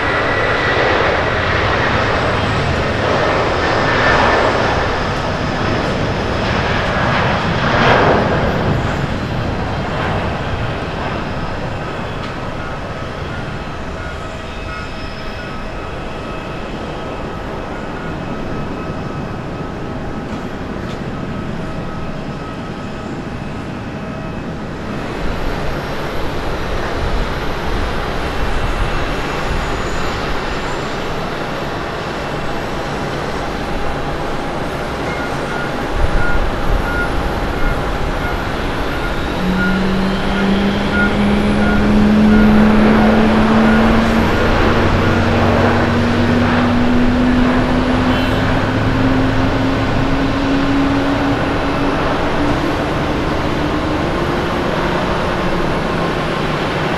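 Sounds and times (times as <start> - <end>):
jet airliner climbing out: 0.0 - 56.9
jet engines spooling up whine: 0.0 - 56.9.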